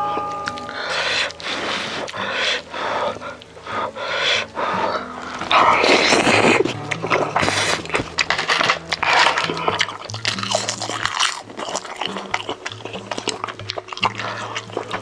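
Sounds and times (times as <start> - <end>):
background music with bass line: 0.0 - 15.0
wet chewing and lip smacking: 0.2 - 15.0.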